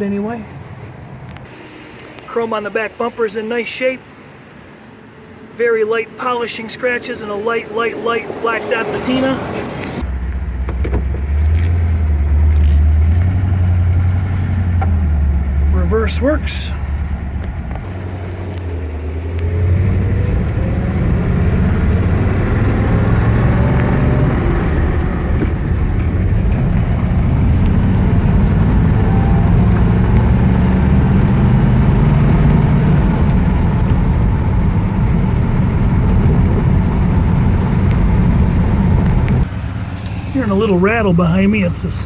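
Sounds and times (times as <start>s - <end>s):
road noise: 0.0s - 42.0s
car engine accelerating: 7.4s - 42.0s.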